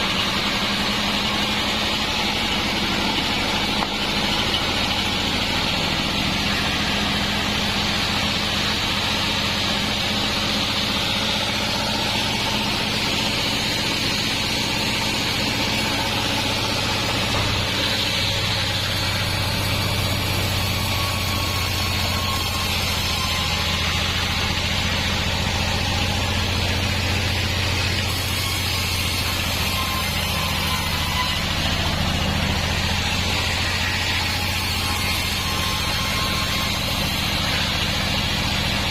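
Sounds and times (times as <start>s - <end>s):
band saw hissing: 0.0s - 38.9s
engine hum: 0.0s - 38.9s.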